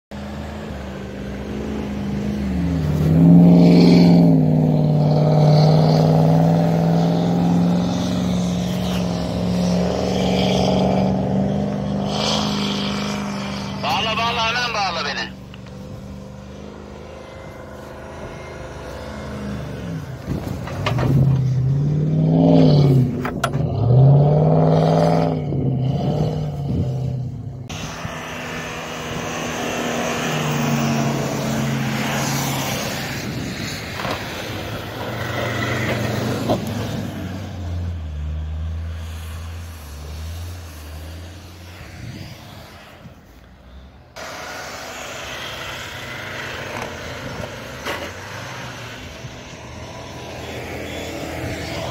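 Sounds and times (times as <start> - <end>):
off-road engines revving: 0.1 - 51.9
tyres churning through snow: 0.1 - 51.9.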